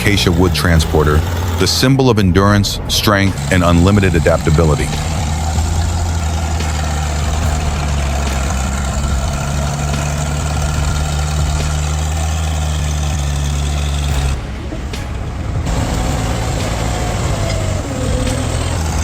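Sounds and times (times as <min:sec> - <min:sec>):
heavy truck engine running: 0:00.0 - 0:19.0.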